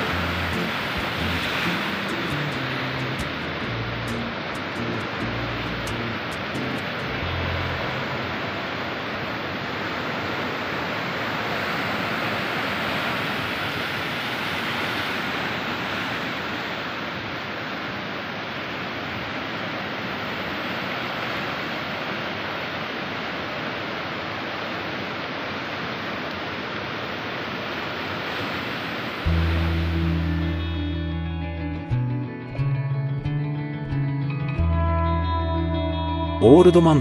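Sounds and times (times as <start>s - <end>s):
ocean surf breaking: 0.0s - 31.1s.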